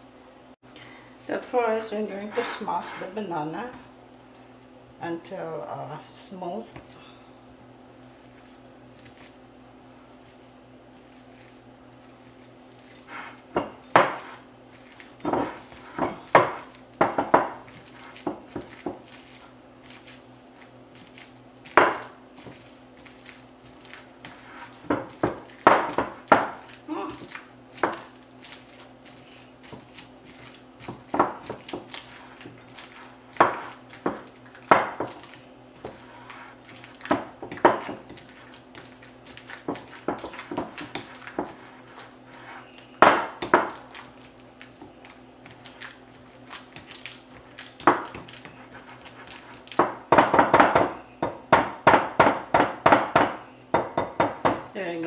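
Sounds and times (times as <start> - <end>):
utensil knocking and scraping bowl: 2.0 - 3.2, 11.0 - 54.8.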